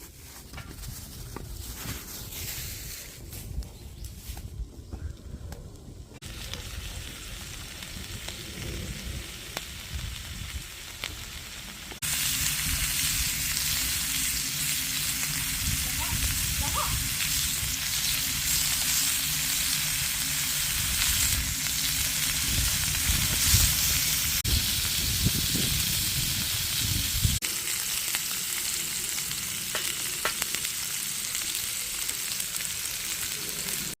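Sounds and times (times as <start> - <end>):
meat sizzling on a grill: 6.2 - 34.0.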